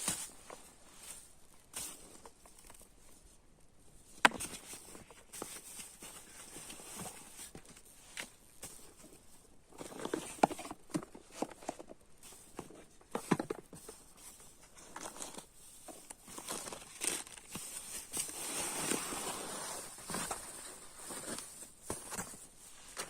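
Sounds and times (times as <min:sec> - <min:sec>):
camping gear rustling and crinkling: 0:00.0 - 0:23.0.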